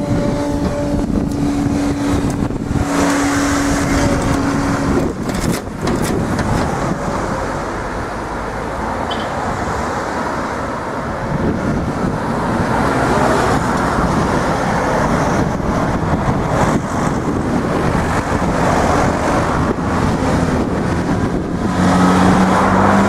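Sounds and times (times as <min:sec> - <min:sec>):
cars driving over rails: 0:00.0 - 0:23.0
vehicle engine hum: 0:00.0 - 0:23.0.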